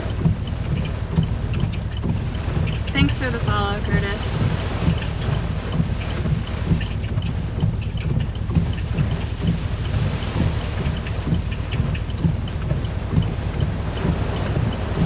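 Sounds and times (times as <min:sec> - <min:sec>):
rain ticking on vehicle: 0:00.0 - 0:15.0
wind rumbling outside vehicle: 0:00.0 - 0:15.0.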